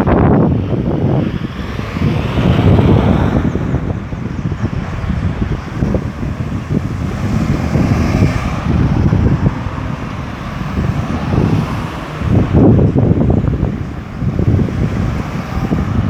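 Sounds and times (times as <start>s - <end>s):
road traffic passing: 0.0s - 16.0s
wind buffeting microphone: 0.0s - 16.0s.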